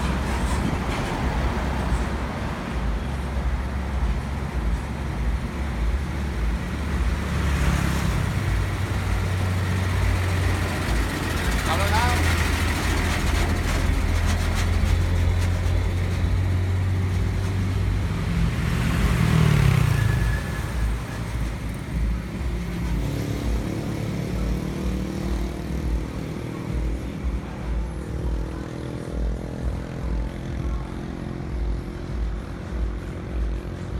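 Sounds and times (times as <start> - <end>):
vehicle engine revving: 0.0 - 33.9.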